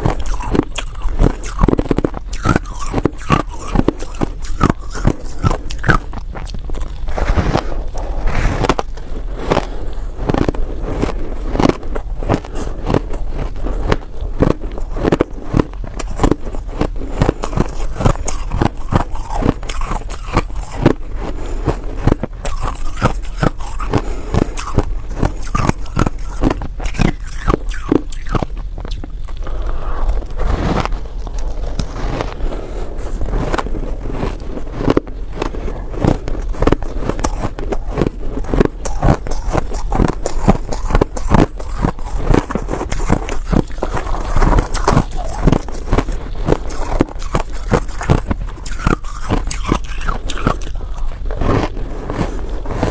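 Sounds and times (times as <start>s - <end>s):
shaved ice being chewed: 0.0s - 52.9s.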